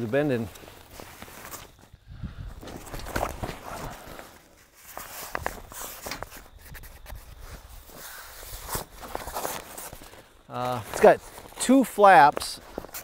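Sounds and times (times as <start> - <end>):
stiff canvas rustling: 0.0 - 13.0.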